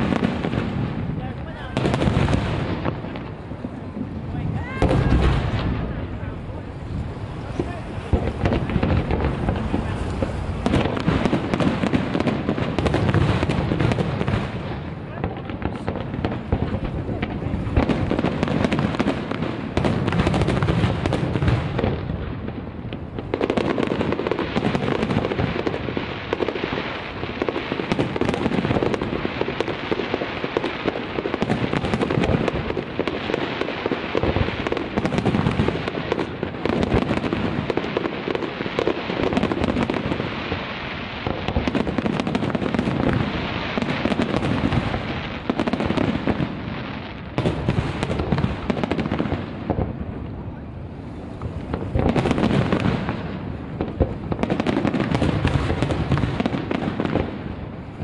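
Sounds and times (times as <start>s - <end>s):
firework shell bursts and crackle: 0.0s - 58.0s.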